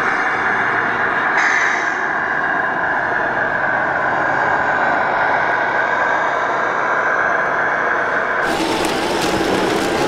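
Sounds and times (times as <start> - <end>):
model bus running with high whine: 0.0 - 10.0.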